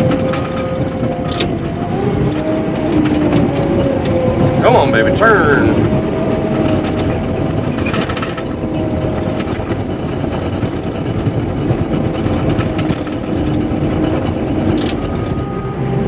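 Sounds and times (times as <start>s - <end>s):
bulldozer diesel engine: 0.0s - 16.0s
steel tracks rattling: 0.0s - 16.0s.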